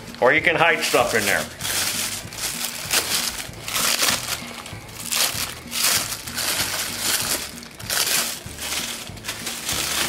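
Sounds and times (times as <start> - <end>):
background music: 0.0 - 10.0
plastic bag crinkling: 0.6 - 10.0.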